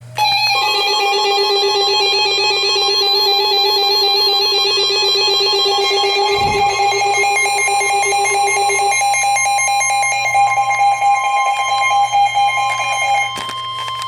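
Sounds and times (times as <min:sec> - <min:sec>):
steady electronic alarm tone: 0:00.2 - 0:14.0.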